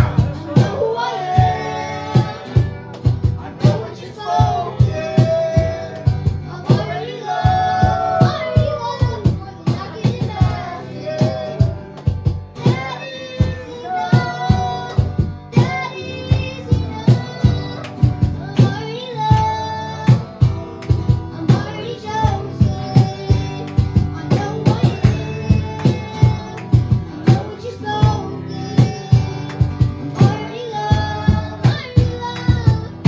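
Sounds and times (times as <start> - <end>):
person singing: 0.0 - 33.0
worship band music: 0.0 - 33.0.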